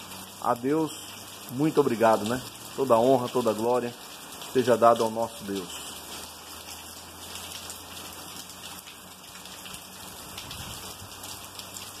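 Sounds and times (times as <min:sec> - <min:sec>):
rain on wet concrete: 0:00.0 - 0:12.0.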